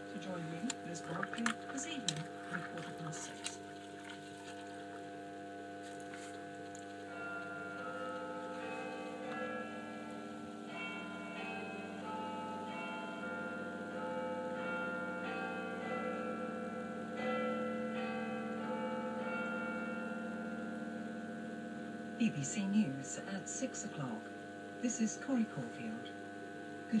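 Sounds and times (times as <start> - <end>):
church bells ringing: 0.0 - 3.6, 6.4 - 27.0
steady low hum: 0.0 - 27.0.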